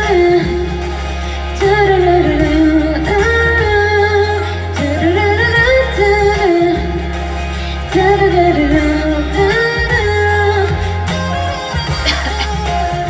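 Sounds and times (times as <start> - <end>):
woman singing wordless melody: 0.0 - 7.2, 7.8 - 13.0
backing track with bass: 0.0 - 13.0.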